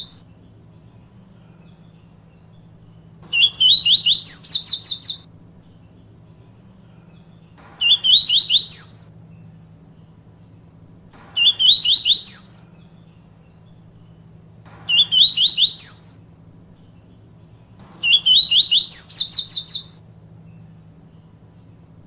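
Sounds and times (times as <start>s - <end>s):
bird singing whistled notes: 0.0s - 10.6s, 11.2s - 21.8s.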